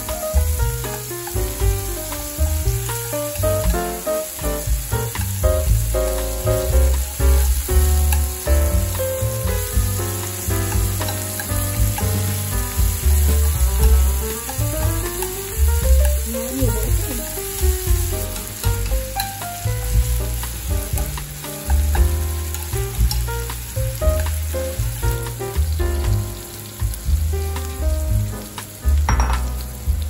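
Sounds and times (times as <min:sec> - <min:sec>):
background music with bass: 0:00.0 - 0:30.0
meat sizzling in a frying pan: 0:00.0 - 0:30.0
chopsticks stirring: 0:00.1 - 0:25.4.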